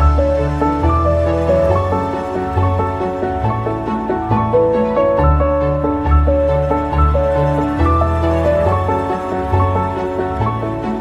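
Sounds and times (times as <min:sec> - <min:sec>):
gentle background music: 0:00.0 - 0:11.0.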